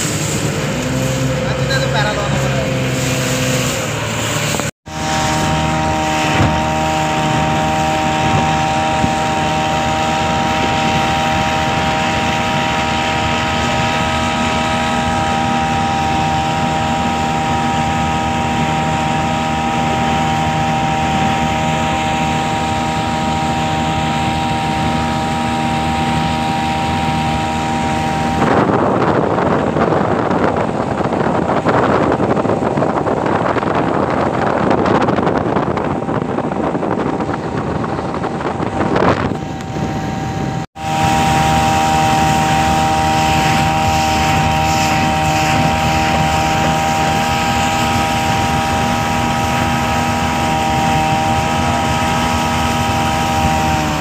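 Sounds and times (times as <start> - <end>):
rushing water and wind: 0.0 - 54.0
speedboat engine droning: 0.0 - 54.0.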